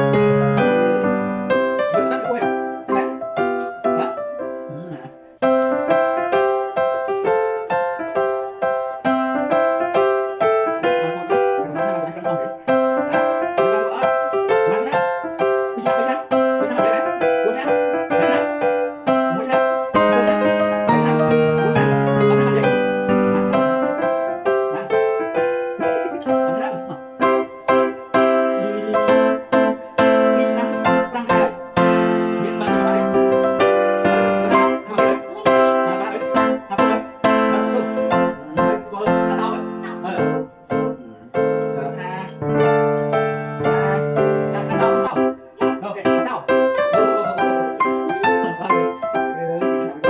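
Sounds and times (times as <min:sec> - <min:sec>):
piano-like keyboard notes: 0:00.0 - 0:50.0.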